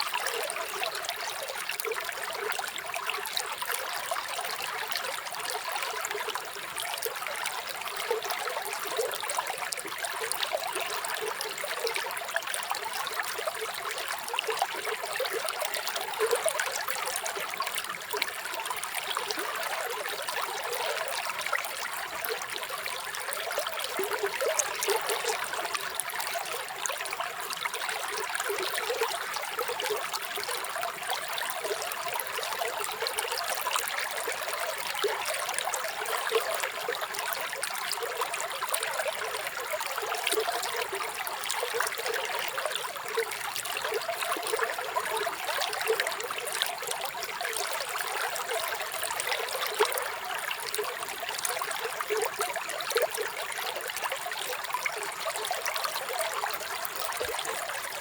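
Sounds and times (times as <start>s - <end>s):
stream trickling and bubbling: 0.0s - 58.0s.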